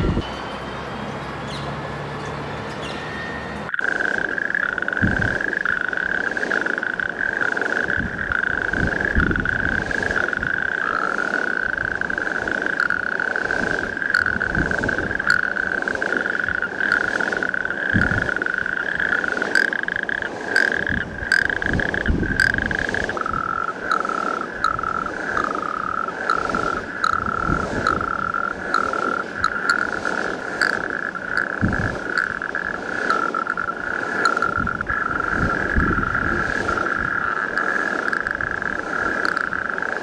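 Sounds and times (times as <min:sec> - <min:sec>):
toads churring: 0:03.7 - 0:40.0.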